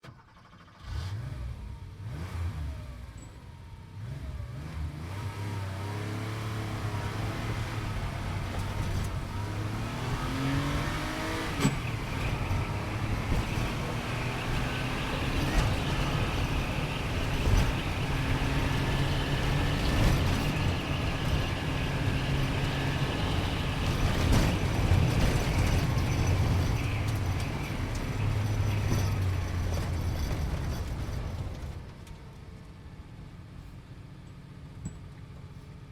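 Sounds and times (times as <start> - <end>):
sports car engine accelerating: 0.8 - 31.0.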